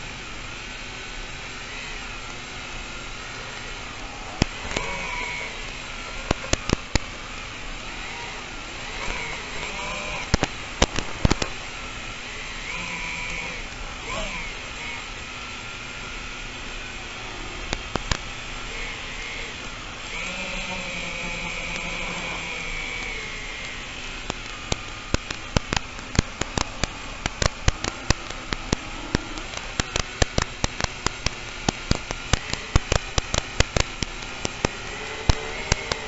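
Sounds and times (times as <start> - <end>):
drone motors whining: 0.0 - 36.0
steady hiss: 0.0 - 36.0
sharp crackling clicks: 1.3 - 36.0.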